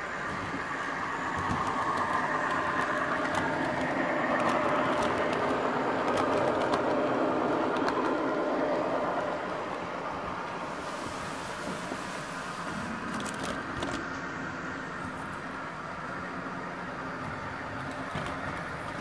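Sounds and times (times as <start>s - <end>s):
model train rumbling: 0.0s - 19.0s.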